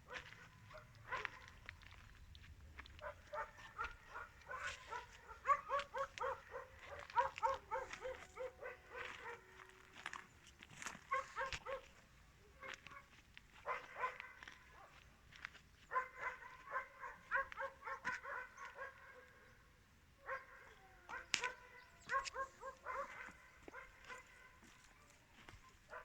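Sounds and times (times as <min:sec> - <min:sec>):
dog barking: 0:00.0 - 0:02.1, 0:02.8 - 0:19.6, 0:20.2 - 0:26.0.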